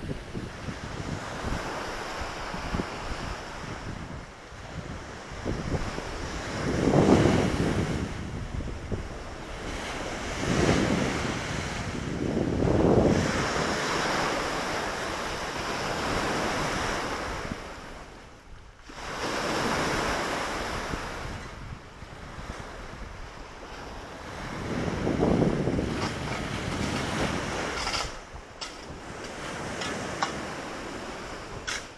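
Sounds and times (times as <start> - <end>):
waves washing onto shore: 0.0 - 31.9
wind on microphone: 0.0 - 31.9.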